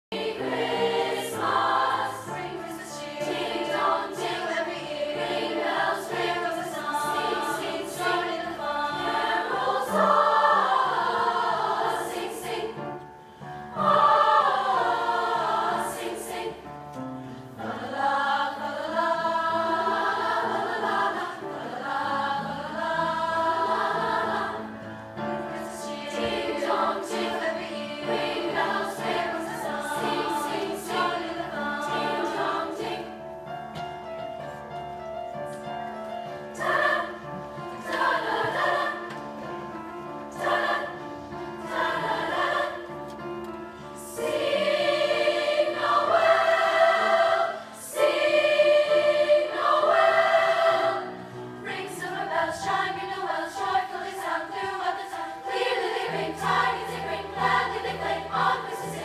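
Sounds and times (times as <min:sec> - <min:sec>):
girls' choir singing: 0:00.1 - 0:34.6, 0:35.6 - 0:59.0.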